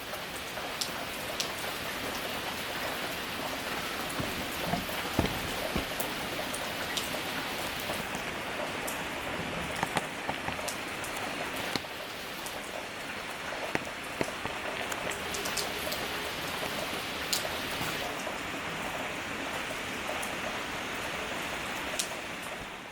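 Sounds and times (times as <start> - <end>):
rain drops on hard surfaces: 0.0 - 22.9.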